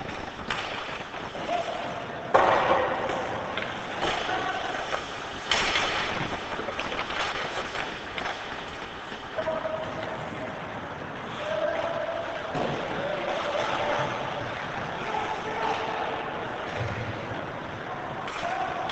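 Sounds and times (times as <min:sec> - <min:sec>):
hockey sticks and puck clacking: 0:00.0 - 0:18.9
skates scraping ice: 0:00.0 - 0:18.9.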